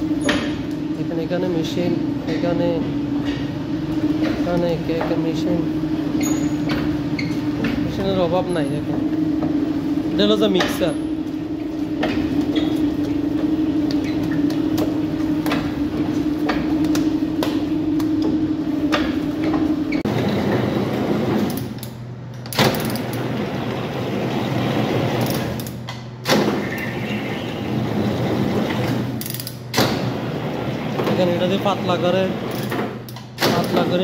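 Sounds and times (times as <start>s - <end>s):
dough sheeter motor humming: 0.0s - 22.3s, 23.0s - 34.0s.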